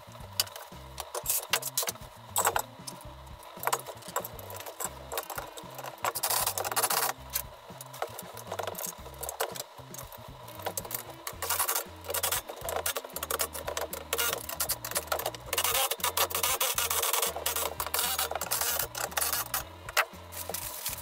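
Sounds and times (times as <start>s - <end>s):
background music: 0.0s - 21.0s
chair parts rubbing and scraping: 0.0s - 21.0s.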